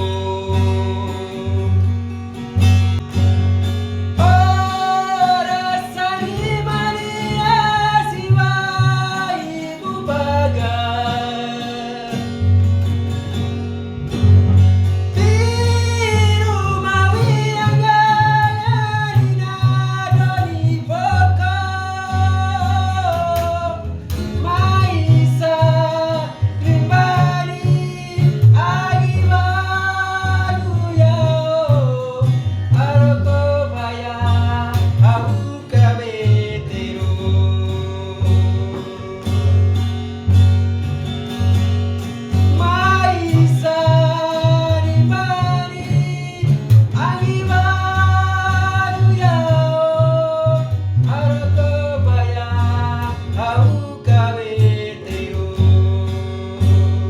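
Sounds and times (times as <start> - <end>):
person singing: 0.0 - 2.0, 4.2 - 12.4, 15.2 - 39.7, 42.5 - 57.0
plucked guitar: 0.0 - 57.0.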